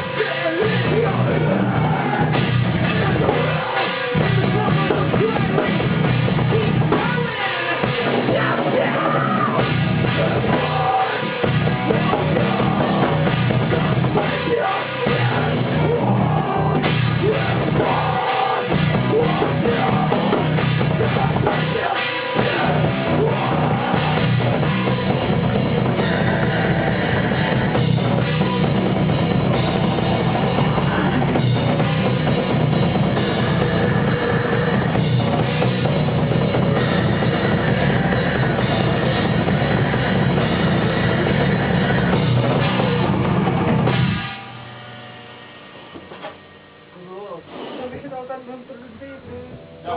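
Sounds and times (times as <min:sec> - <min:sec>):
distorted loud rock music: 0:00.0 - 0:49.9.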